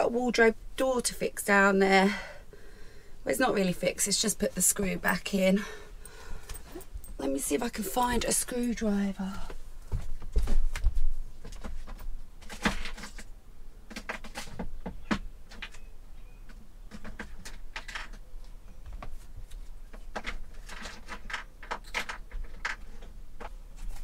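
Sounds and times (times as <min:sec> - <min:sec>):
items handled inside locker: 0:04.2 - 0:24.0.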